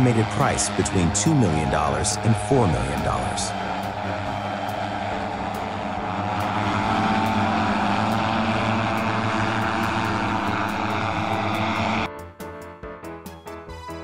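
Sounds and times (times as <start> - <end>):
music: 0.0 - 7.4, 8.0 - 14.0
electric rotors whirring: 0.0 - 12.1.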